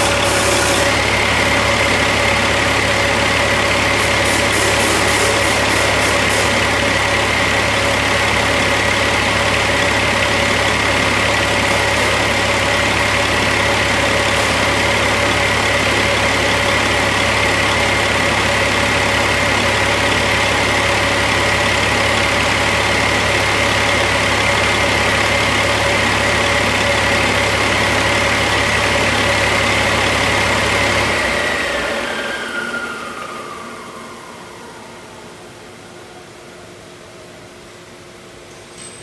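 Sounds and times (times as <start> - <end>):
diesel engine running: 0.0 - 38.4
turbocharger whine: 0.0 - 38.4.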